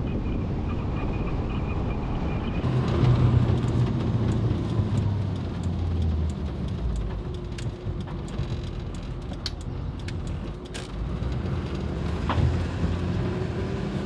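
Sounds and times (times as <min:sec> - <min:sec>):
truck engine low hum: 0:00.0 - 0:14.0
wind and road noise: 0:00.0 - 0:14.0.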